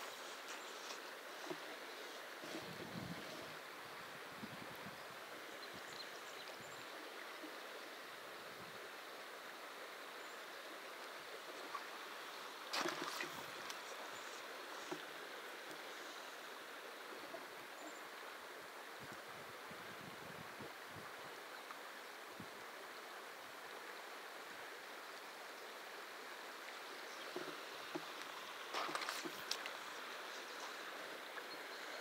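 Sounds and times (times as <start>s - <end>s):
river flowing over rocks: 5.0s - 19.6s, 20.8s - 32.0s.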